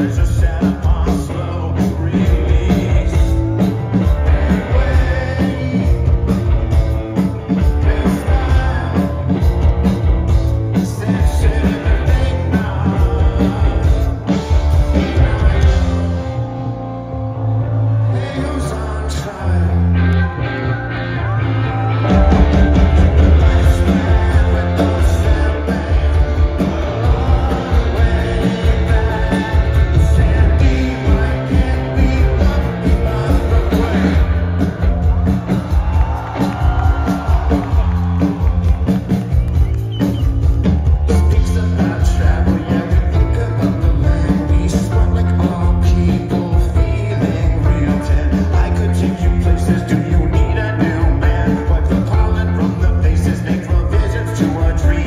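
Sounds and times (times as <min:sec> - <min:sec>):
man singing: 0:00.0 - 0:06.5, 0:07.4 - 0:09.8, 0:10.6 - 0:16.4, 0:17.8 - 0:20.4, 0:21.3 - 0:38.2, 0:41.0 - 0:55.0
live rock band: 0:00.0 - 0:55.0.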